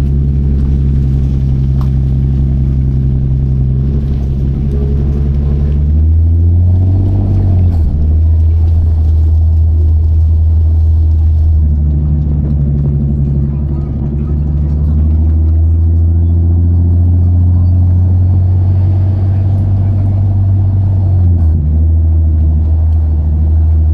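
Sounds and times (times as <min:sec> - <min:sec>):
car engine running at low revs: 0:00.0 - 0:23.9.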